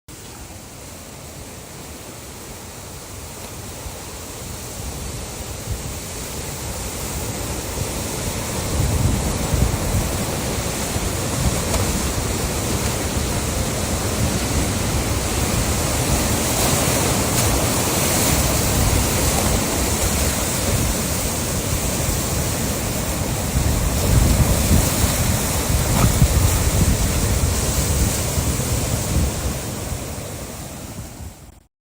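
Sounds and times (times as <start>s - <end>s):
ocean waves crashing: 0.1s - 31.6s.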